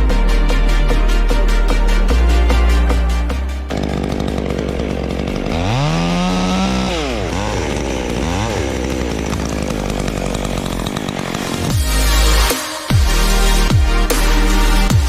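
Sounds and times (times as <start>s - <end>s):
chainsaw revving: 2.9s - 15.0s.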